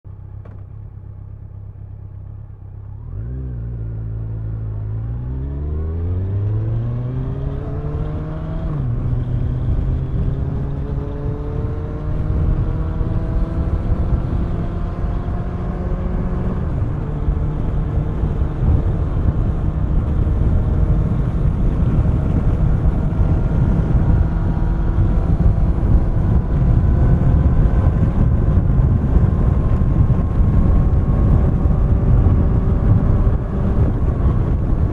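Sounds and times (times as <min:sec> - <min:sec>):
motorcycle engine revving: 0:02.8 - 0:34.9
wind rush: 0:04.8 - 0:34.9.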